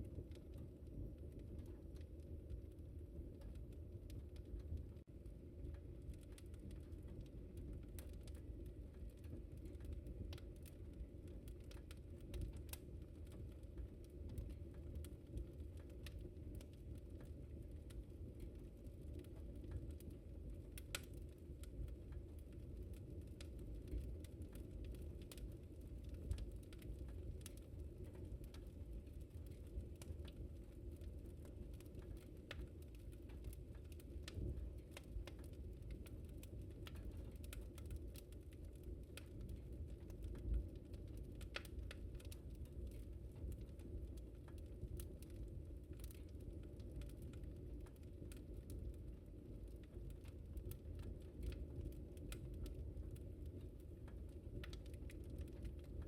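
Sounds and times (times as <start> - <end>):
low rumble of flames: 0.0 - 56.0
wood fire popping and snapping: 0.0 - 56.0.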